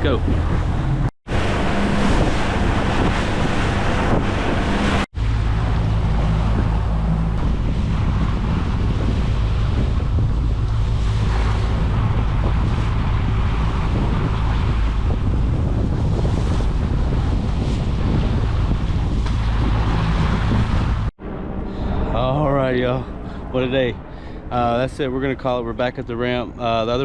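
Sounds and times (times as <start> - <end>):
boat engine drone: 0.0 - 27.0
water rushing along hull: 0.0 - 27.0
wind buffeting microphone: 0.0 - 27.0.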